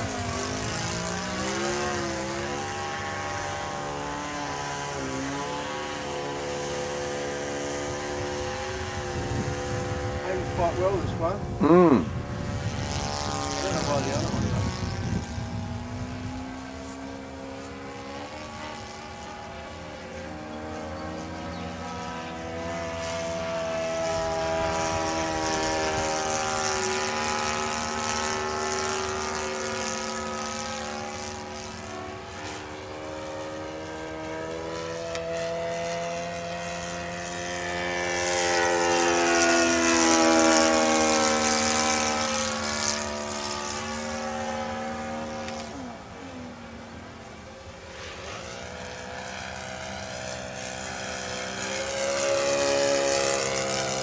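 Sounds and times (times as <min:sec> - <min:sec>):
model plane engine in flight: 0:00.0 - 0:54.0.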